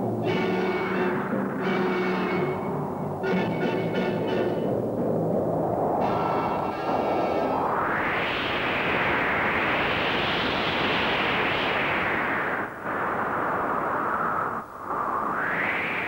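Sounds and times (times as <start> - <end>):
steady rushing noise effect: 0.0 - 16.0.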